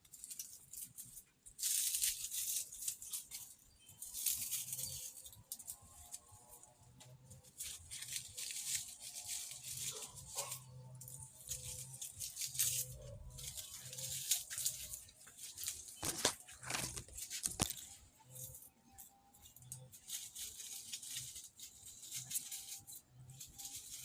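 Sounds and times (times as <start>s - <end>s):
potting soil rustling and scraping: 0.0s - 24.0s
faint music: 0.2s - 24.0s.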